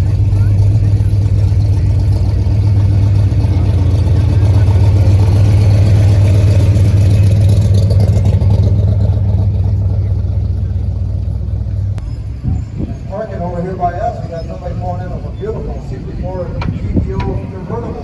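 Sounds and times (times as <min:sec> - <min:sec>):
car engine running: 0:00.0 - 0:12.2, 0:12.8 - 0:18.0.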